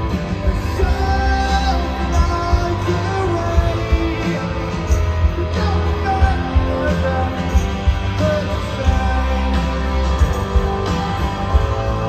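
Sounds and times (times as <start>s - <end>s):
live rock band: 0.0s - 12.0s
person singing: 0.0s - 12.0s.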